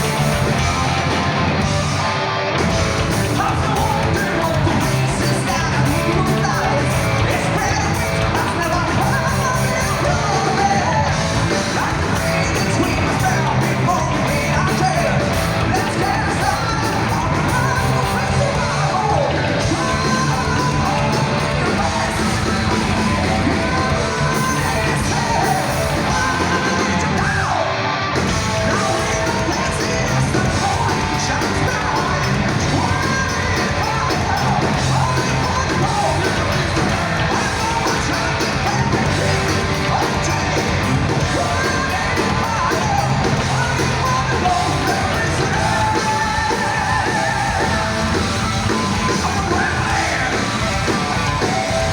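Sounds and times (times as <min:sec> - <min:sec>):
drums: 0:00.0 - 0:51.9
loud electric guitars: 0:00.0 - 0:51.9
person singing and yelling: 0:00.0 - 0:51.9.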